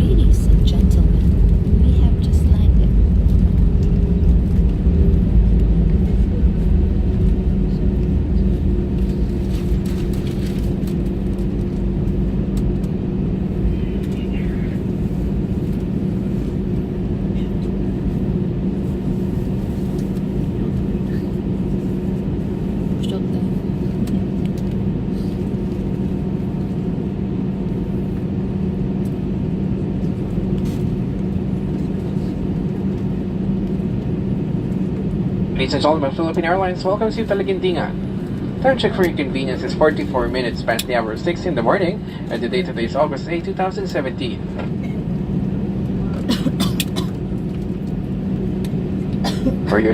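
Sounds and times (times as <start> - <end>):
airplane cabin engine drone: 0.0 - 49.9.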